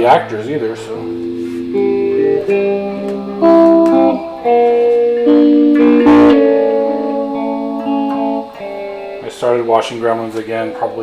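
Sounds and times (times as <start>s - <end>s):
electric guitar playing chords: 0.0s - 11.0s.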